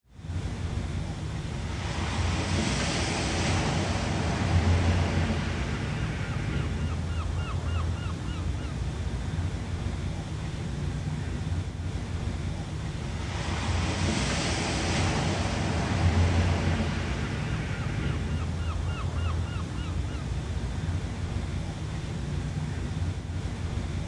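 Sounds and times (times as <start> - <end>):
ocean waves washing: 0.1 - 24.0.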